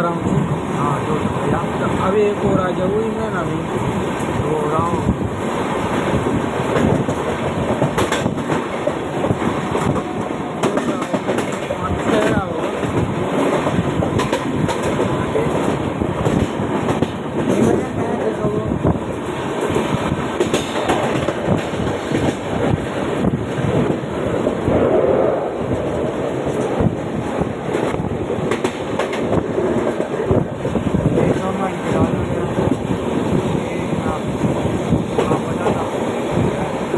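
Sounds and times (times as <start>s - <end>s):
train running rumble: 0.0s - 36.9s.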